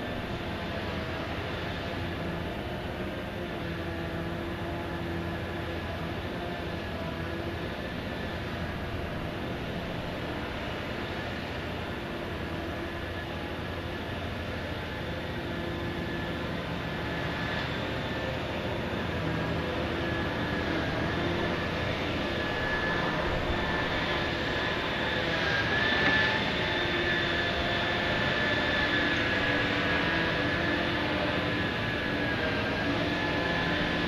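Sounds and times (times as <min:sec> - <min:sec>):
dredging machinery engine drone: 0:00.0 - 0:34.0.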